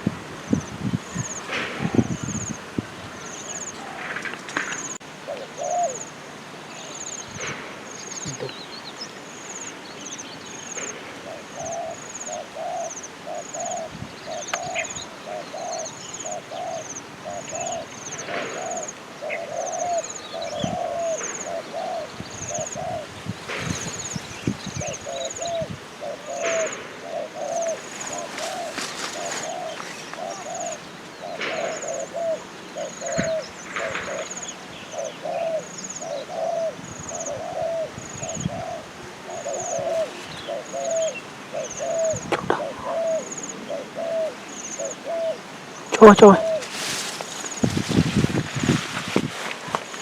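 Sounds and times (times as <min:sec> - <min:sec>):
dove cooing: 0:00.0 - 0:08.6, 0:10.7 - 0:50.0.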